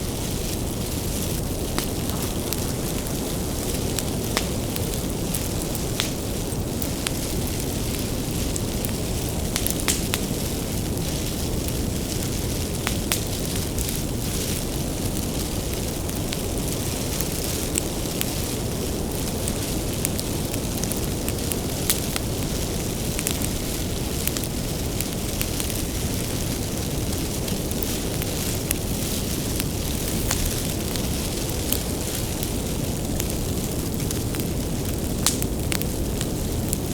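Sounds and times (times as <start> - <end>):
bonfire crackling and popping: 0.0 - 36.9
low rumble of burning: 0.0 - 36.9.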